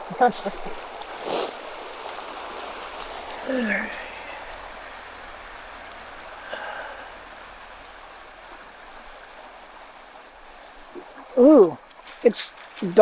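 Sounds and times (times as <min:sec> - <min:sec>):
stream flowing over rocks: 0:00.0 - 0:13.0.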